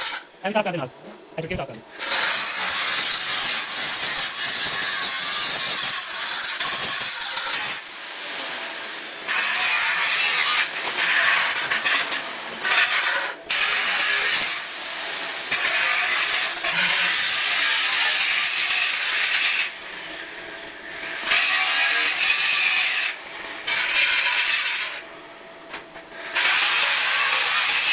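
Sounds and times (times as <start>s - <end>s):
angle grinder grinding steel: 0.0s - 0.2s, 2.0s - 25.1s, 26.1s - 27.9s.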